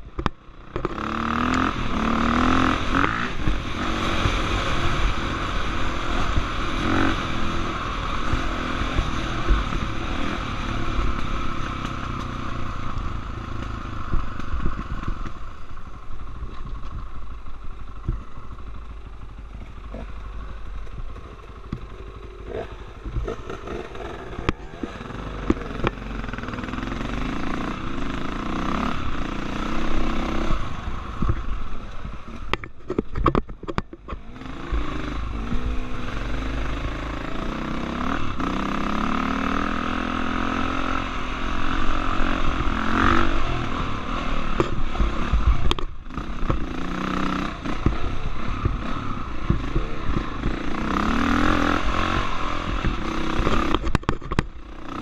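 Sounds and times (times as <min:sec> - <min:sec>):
dirt bike engine revving: 0:00.7 - 0:15.5, 0:19.0 - 0:32.5, 0:34.2 - 0:55.0.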